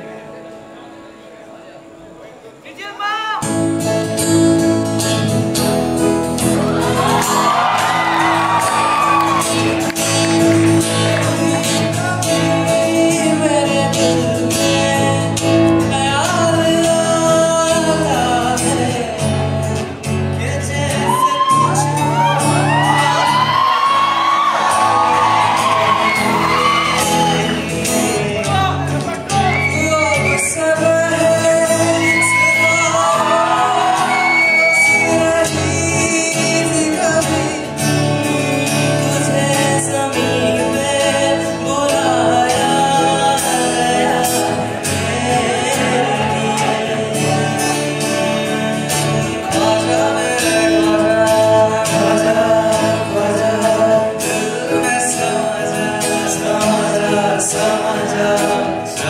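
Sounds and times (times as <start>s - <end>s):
acoustic guitar: 0.0s - 59.0s
men singing into microphones: 6.7s - 59.0s.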